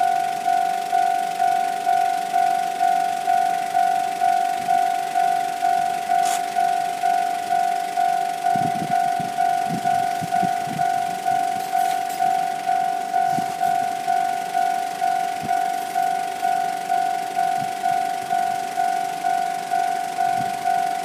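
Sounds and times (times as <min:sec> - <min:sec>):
level-crossing warning bell ringing: 0:00.0 - 0:21.0.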